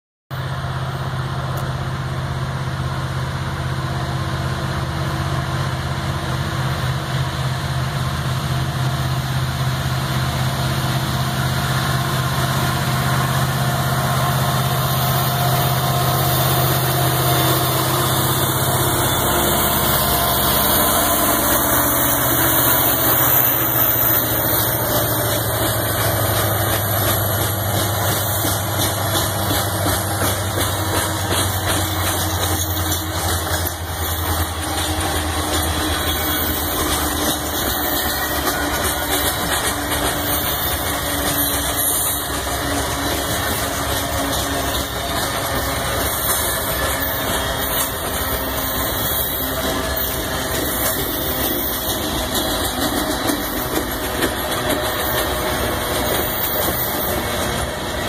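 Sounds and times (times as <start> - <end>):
diesel locomotive engine drone: 0.3 - 58.0
train wheels on rails: 0.3 - 58.0.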